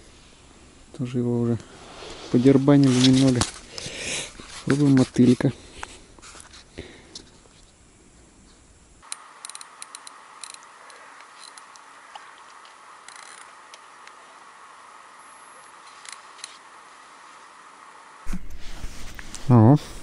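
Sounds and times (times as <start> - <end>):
steady low hiss: 0.0 - 20.0.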